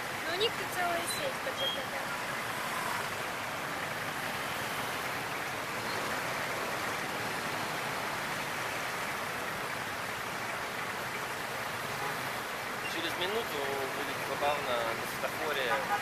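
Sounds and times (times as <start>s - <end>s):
traffic: 0.0s - 16.0s.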